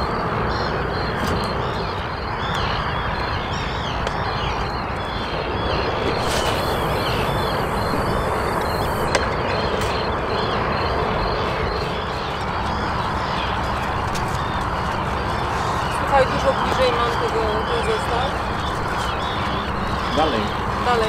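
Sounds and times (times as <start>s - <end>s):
small birds chirping: 0.0s - 21.0s
steady low rushing noise: 0.0s - 21.0s.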